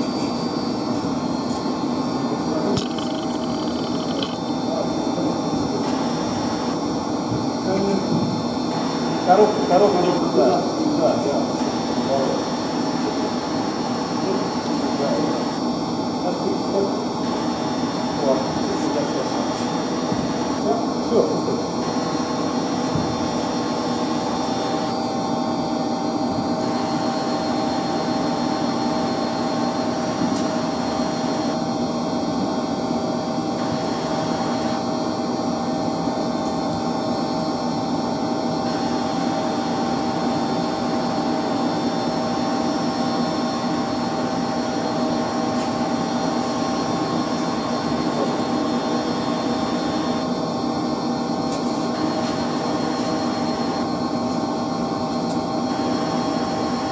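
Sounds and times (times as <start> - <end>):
pump motors humming: 0.0 - 56.9.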